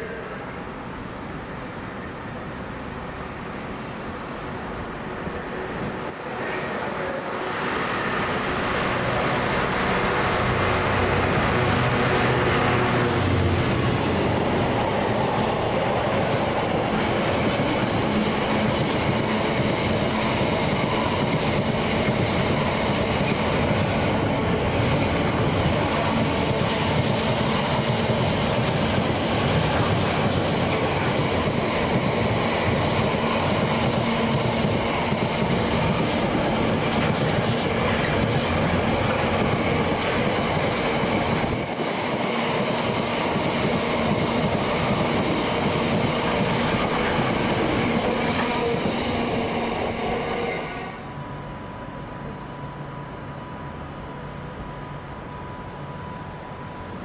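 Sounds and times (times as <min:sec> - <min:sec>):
train engine: 0:00.0 - 0:57.0
train wheels rumbling on rail: 0:02.8 - 0:51.3.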